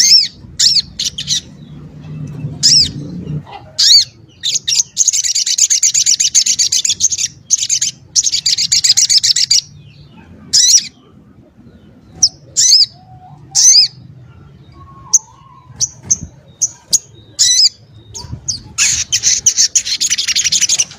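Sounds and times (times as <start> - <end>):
bird twittering trills: 0.0 - 20.9.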